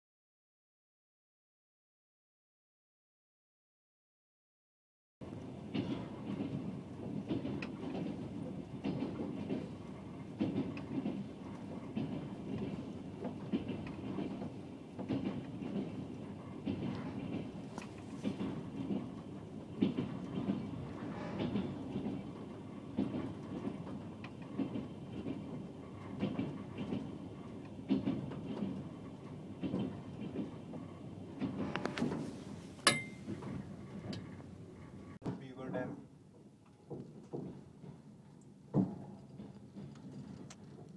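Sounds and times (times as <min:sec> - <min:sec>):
train rumble: 0:05.2 - 0:40.9
wheels clacking over rail joints: 0:05.2 - 0:40.9.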